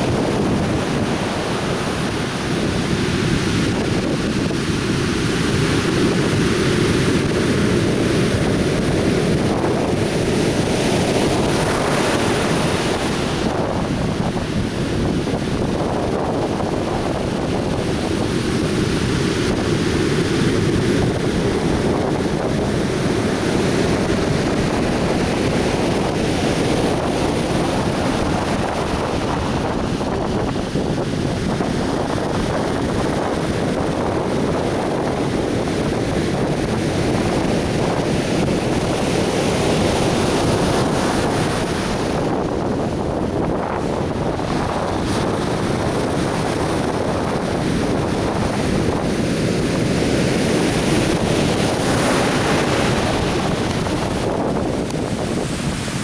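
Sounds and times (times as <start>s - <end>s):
waves breaking on beach: 0.0s - 56.0s
wind buffeting microphone: 0.0s - 56.0s.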